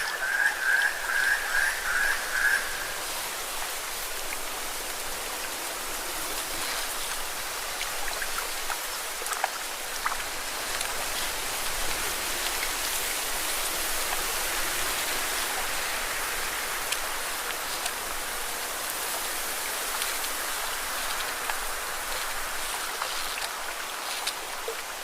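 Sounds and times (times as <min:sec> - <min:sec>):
water splashing against rocks: 0:02.3 - 0:25.0.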